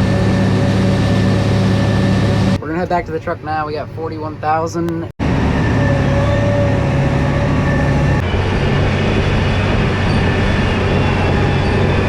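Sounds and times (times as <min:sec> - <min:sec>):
tractor diesel engine droning: 0:00.0 - 0:03.4, 0:05.2 - 0:12.0.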